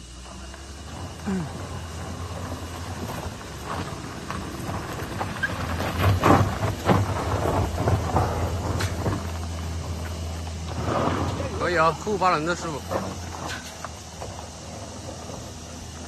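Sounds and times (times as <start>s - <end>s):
off-road vehicle engine straining: 0.0s - 16.0s
tyres spinning in sand: 0.0s - 16.0s.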